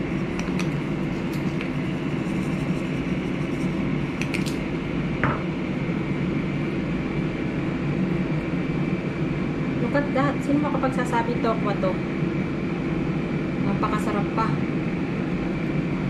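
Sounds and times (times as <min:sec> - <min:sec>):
fan whirring hum: 0:00.0 - 0:16.0.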